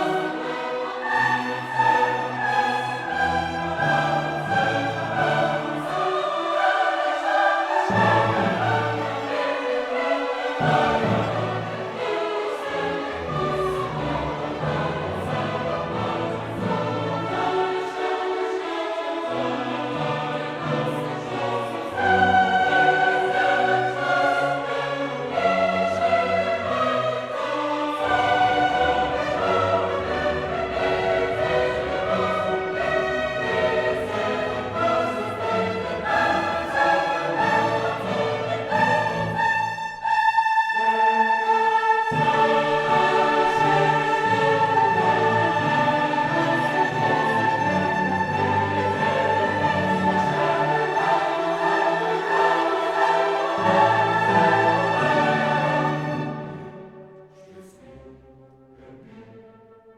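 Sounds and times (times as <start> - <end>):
orchestral music with choir: 0.0 - 59.9.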